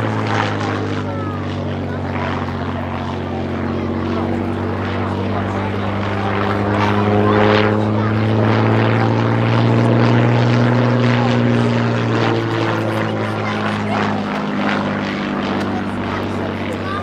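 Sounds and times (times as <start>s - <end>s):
propeller plane engine: 0.0s - 17.0s.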